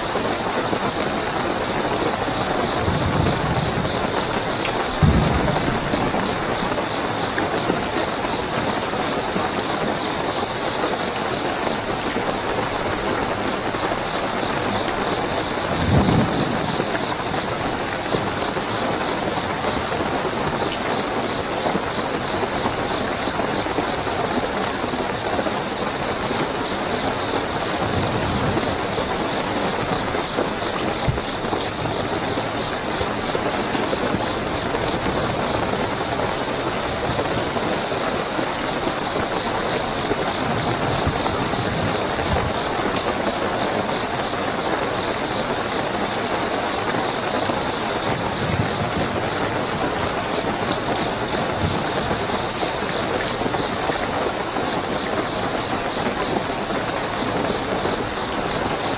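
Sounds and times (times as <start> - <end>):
high-pitched cricket chirping: 0.0 - 58.9
steady rainfall: 0.0 - 58.9.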